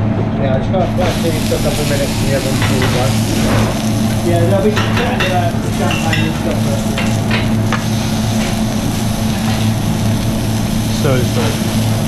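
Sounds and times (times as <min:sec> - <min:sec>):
low steady hum: 0:00.0 - 0:12.0
onions sizzling on a griddle: 0:00.9 - 0:12.0.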